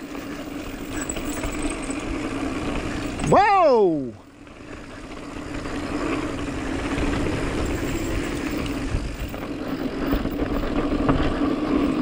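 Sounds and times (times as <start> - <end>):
tyre and wind rumble: 0.0 - 12.0.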